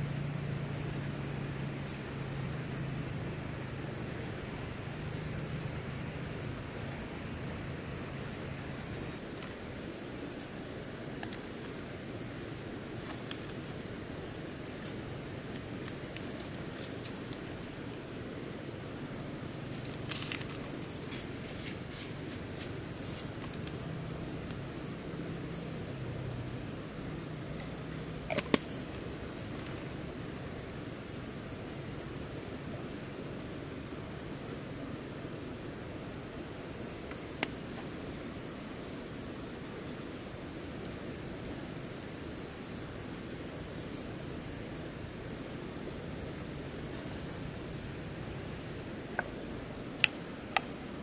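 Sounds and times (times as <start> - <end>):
outdoor background hiss: 0.0 - 51.0.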